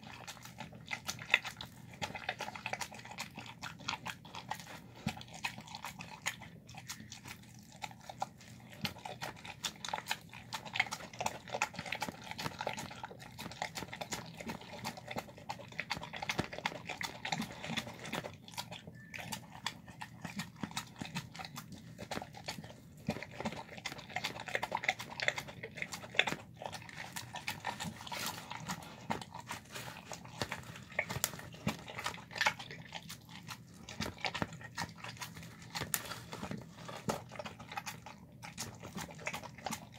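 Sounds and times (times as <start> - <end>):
dog chewing wetly: 0.0 - 39.9.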